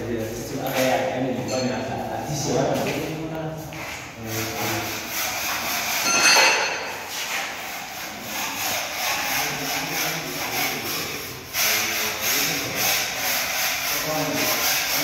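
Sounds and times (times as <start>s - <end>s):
rough rubbing and scraping: 0.1s - 15.0s.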